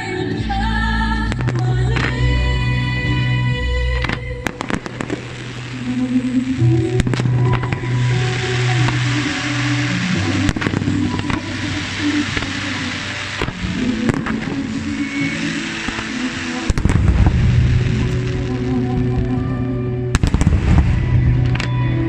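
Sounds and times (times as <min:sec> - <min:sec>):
music with held notes: 0:00.0 - 0:22.0
fireworks bursting with bangs: 0:01.2 - 0:22.0.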